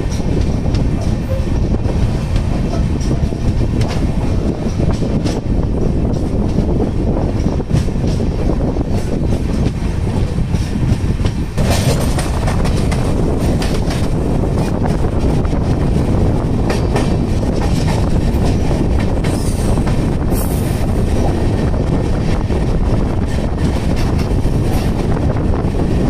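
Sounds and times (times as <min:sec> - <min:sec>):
wheels clattering over rail joints: 0:00.0 - 0:22.0
train rumbling: 0:00.0 - 0:26.0.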